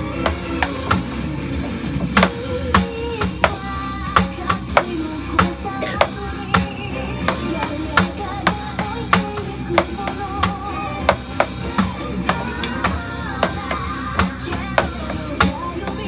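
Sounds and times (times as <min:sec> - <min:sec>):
drum kit playing: 0:00.0 - 0:16.0
rock song with singing: 0:00.0 - 0:16.0.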